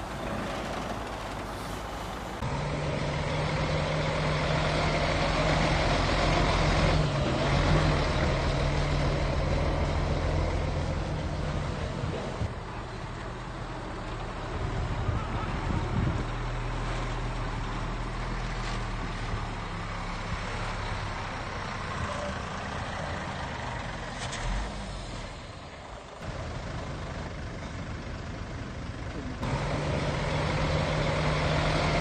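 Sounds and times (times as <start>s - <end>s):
heavy diesel machinery engine drone: 0.0s - 32.0s.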